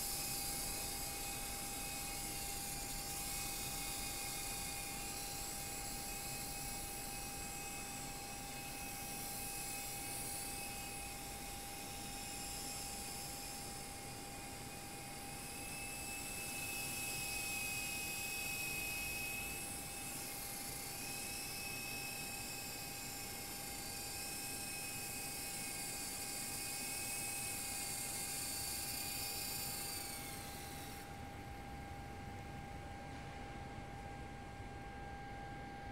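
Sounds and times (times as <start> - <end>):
model helicopter motor whine: 0.0 - 32.5.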